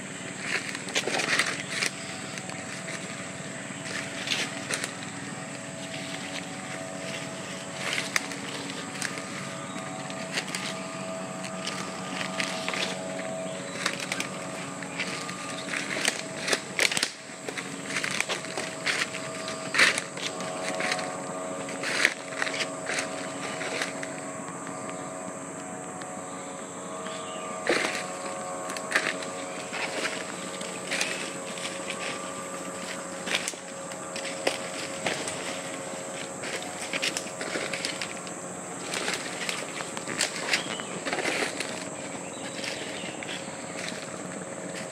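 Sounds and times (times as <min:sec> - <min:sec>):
footsteps crunching on dry leaves: 0:00.0 - 0:44.9
motor running steadily: 0:00.0 - 0:44.9
steady hum of held tones: 0:00.0 - 0:44.9.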